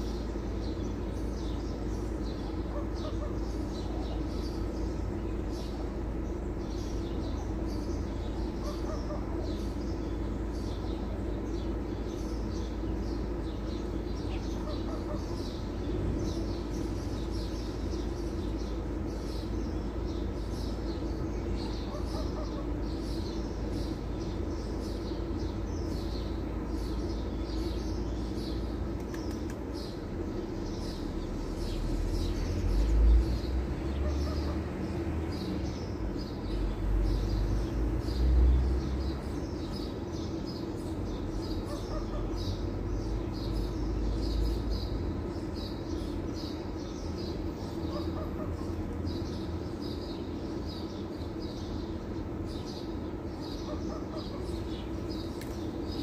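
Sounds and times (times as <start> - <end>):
low machine hum: 0.0 - 56.0
small birds chirping: 0.0 - 56.0.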